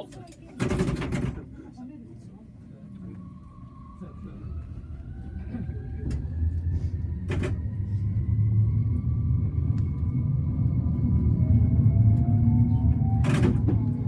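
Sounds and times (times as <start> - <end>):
tram motors whining: 2.3 - 14.0
wheels rumbling on rail: 2.3 - 14.0.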